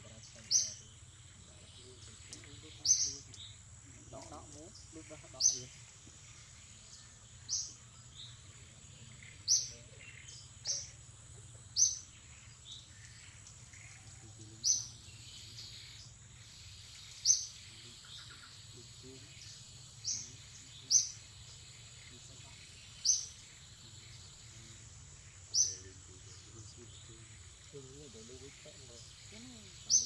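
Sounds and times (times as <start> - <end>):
faint high whine: 0.0 - 30.0.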